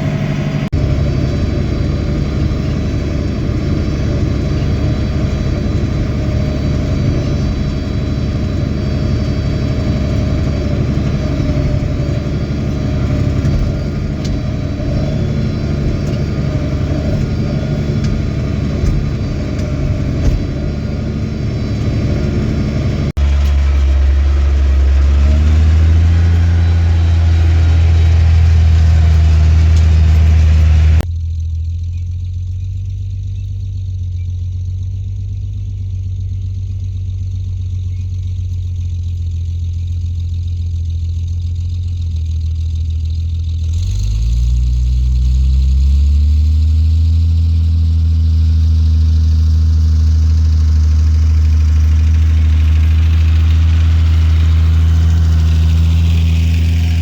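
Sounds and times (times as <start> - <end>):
farm machinery engine running: 0.0 - 57.0.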